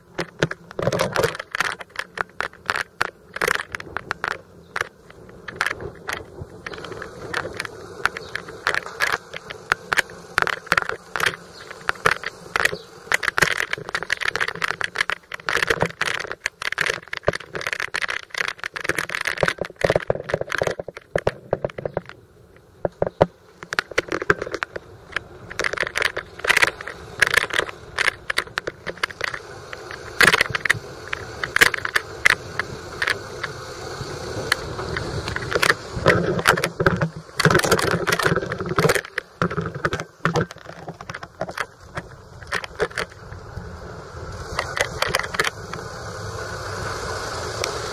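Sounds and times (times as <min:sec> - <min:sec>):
bicycle clattering and rattling: 0:00.0 - 0:47.9.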